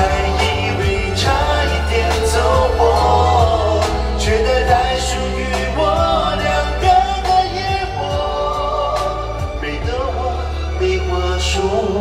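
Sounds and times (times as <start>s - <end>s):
band with steady bass line: 0.0s - 12.0s
man singing: 0.0s - 12.0s.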